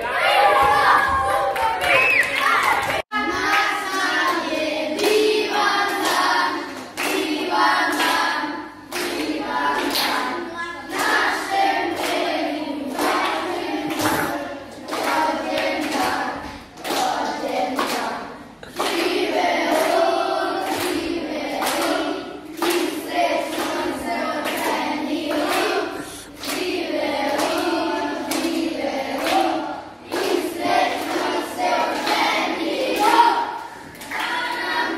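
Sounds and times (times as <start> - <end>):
children singing a chant: 0.0 - 34.9
rhythmic hand clapping: 1.5 - 34.9.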